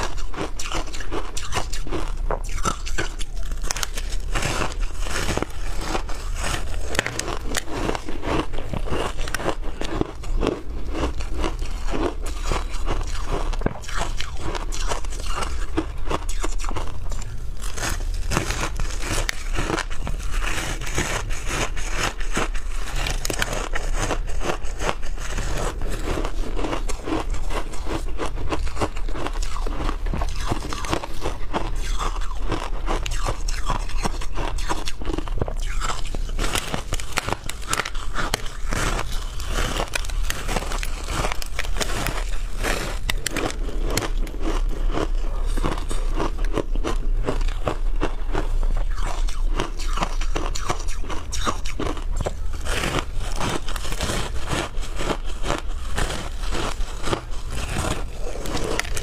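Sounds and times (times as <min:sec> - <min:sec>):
shaved ice crunching when chewed: 0:00.0 - 0:59.0.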